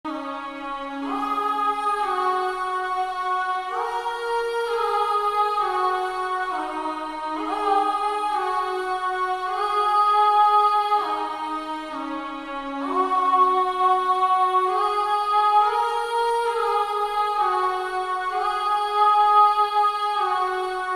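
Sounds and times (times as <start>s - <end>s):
choir vocal pad chords: 0.1s - 20.9s.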